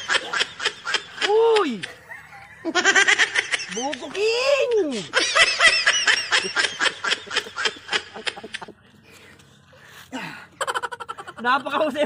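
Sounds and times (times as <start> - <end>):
person laughing hard: 0.0 - 8.8, 10.2 - 12.0.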